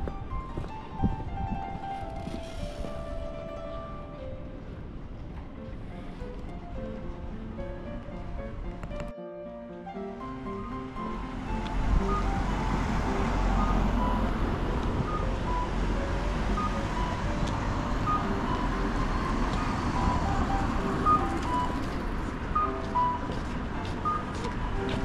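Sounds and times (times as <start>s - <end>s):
road traffic rumble: 0.0s - 9.1s, 10.1s - 25.0s
simple high-pitched melody: 0.0s - 25.0s.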